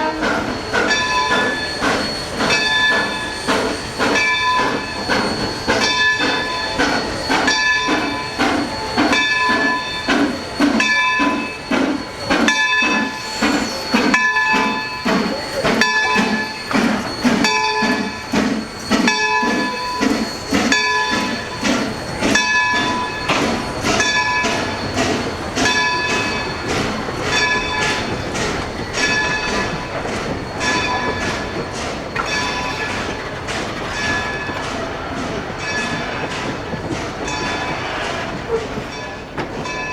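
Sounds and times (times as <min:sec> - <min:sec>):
locomotive bell ringing: 0:00.0 - 0:39.9
low pulsing of moving train: 0:00.0 - 0:39.9.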